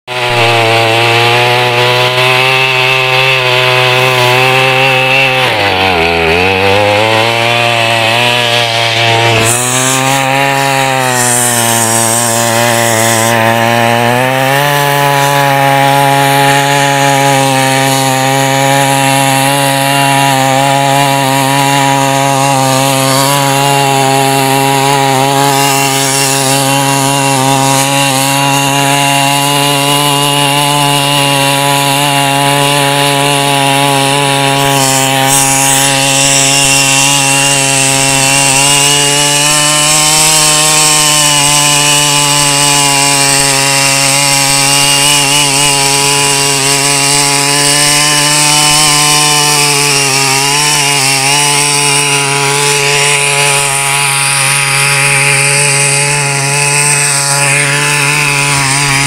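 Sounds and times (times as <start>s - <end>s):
two-stroke weeder engine revving: 0.0s - 59.0s.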